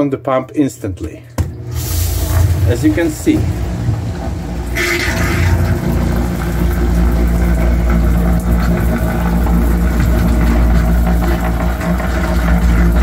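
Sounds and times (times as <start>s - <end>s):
sewage pump humming: 0.8s - 13.0s.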